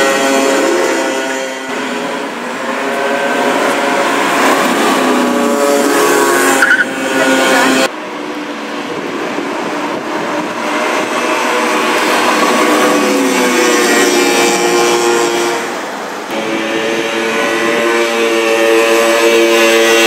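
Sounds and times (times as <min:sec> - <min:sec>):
cars passing at speed: 0:00.0 - 0:20.0.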